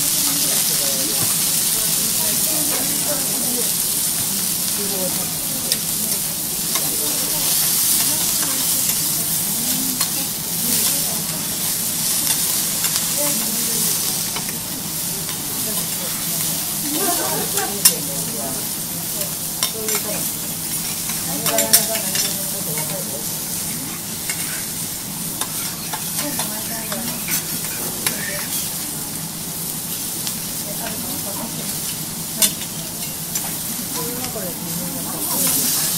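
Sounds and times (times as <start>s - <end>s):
food sizzling on a hot griddle: 0.0s - 35.9s.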